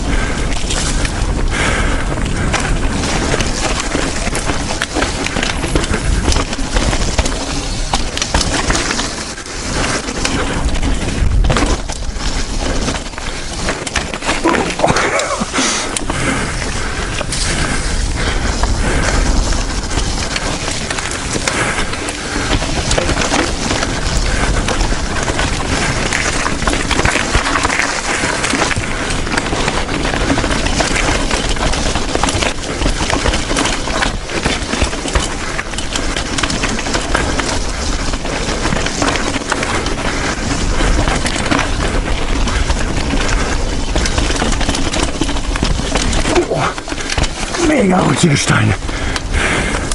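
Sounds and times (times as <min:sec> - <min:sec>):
wind rumble on microphone: 0:00.0 - 0:47.6, 0:48.8 - 0:49.9
bike chain and frame rattling: 0:00.0 - 0:47.7, 0:48.8 - 0:49.9
tyres rolling over dirt and stones: 0:00.0 - 0:49.9.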